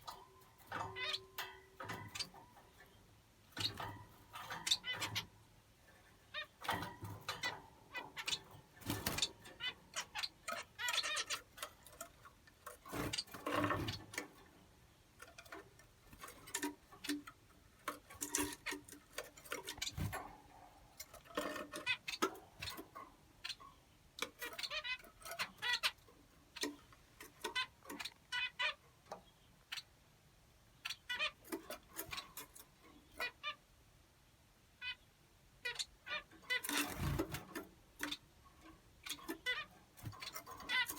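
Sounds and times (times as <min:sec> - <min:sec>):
finches chirping: 0:00.0 - 0:14.4, 0:15.2 - 0:30.0, 0:30.6 - 0:33.6, 0:34.8 - 0:40.9.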